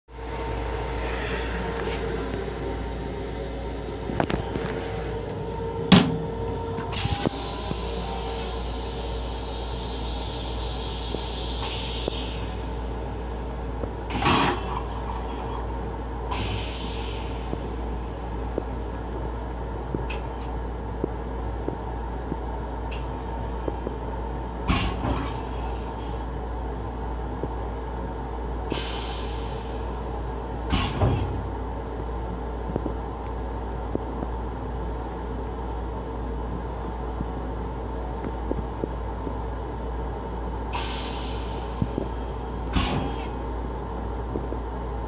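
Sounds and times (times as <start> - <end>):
railcar low rumble: 0.0 - 45.0.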